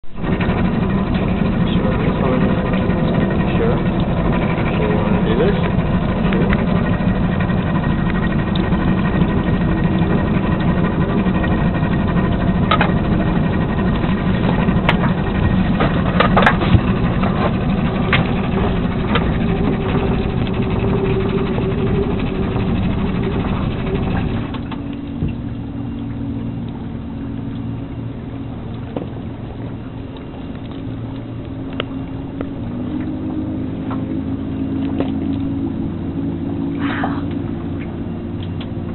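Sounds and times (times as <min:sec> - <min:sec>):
boat motor idling: 0:00.0 - 0:38.9.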